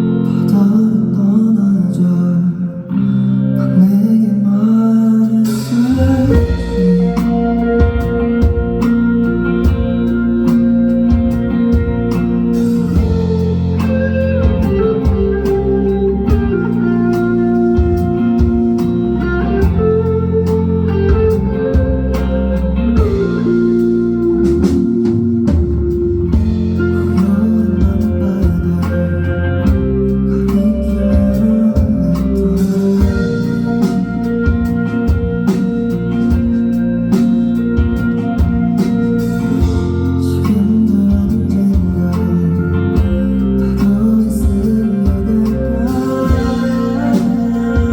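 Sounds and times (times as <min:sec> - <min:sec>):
guitar: 0:00.0 - 0:47.9
low bass notes: 0:00.0 - 0:47.9
steady drum beat: 0:05.5 - 0:47.9.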